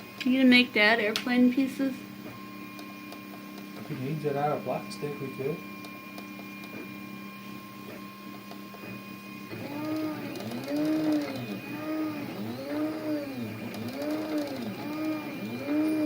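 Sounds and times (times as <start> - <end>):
stepper motor whine: 0.0 - 16.0
stepper motors humming: 0.0 - 16.0.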